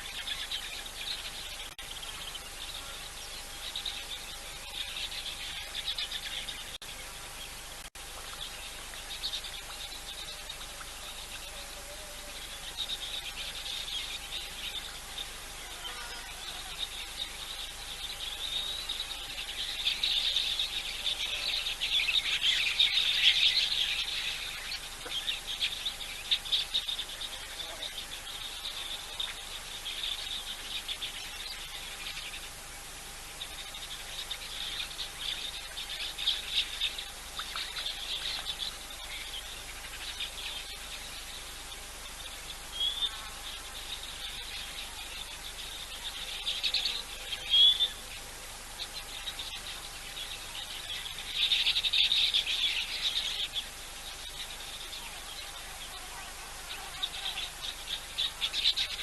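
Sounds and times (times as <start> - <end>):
birds chirping and calling: 0.0 - 59.0
faint steady tone: 0.0 - 59.0
insects trilling: 0.0 - 59.0.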